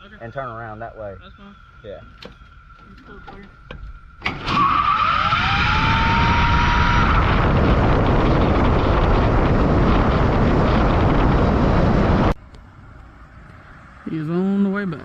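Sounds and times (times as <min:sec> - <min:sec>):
road noise rush: 0:00.0 - 0:15.0.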